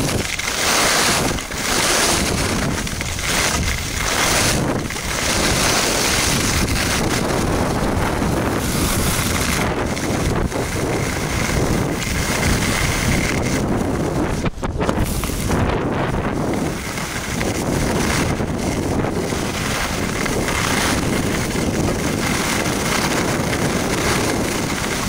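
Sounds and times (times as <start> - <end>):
skis scraping over snow: 0.0 - 25.0
wind buffeting microphone: 0.0 - 25.0.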